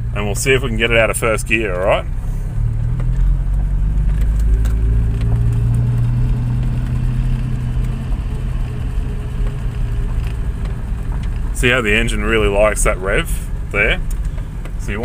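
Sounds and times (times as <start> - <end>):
car engine low drone from cabin: 0.0 - 15.0.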